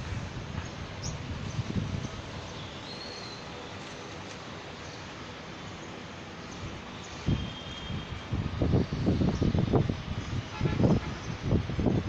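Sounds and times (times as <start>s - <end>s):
outdoor ambient hiss: 0.0s - 12.0s.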